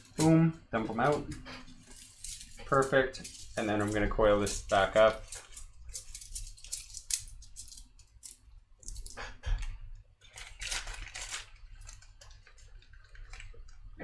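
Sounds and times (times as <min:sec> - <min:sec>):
plastic tape crinkling: 0:00.0 - 0:14.0.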